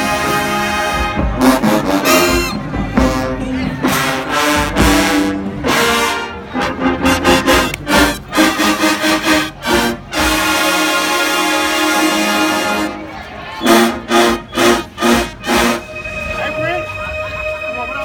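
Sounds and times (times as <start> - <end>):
marching band brass hits: 0.0 - 17.0.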